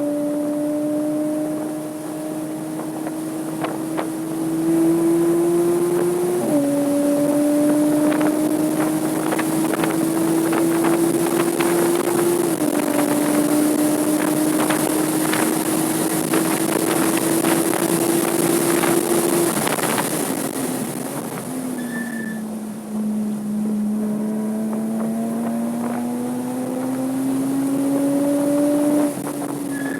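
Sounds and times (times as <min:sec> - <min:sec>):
wind noise: 0:00.0 - 0:23.0, 0:23.7 - 0:29.9
car engine revving: 0:00.0 - 0:29.9.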